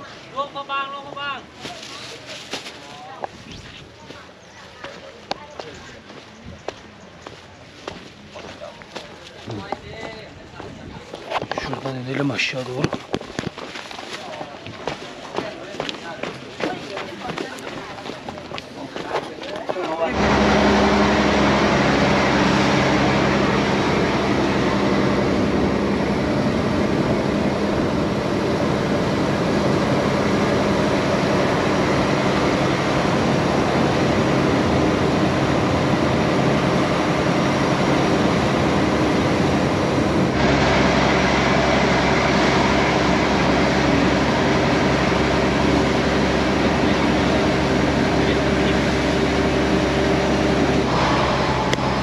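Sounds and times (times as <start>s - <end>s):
boat engine running: 0.0s - 52.0s
wind: 0.0s - 52.0s.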